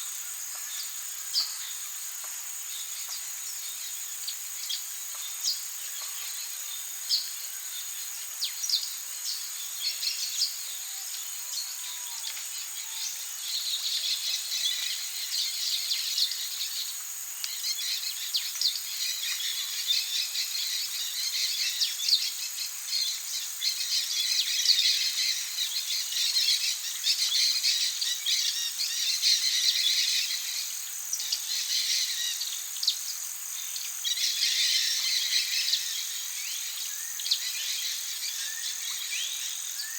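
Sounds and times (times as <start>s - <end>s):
chorus of bird and insect calls: 0.0s - 39.9s
insects trilling: 0.0s - 39.9s.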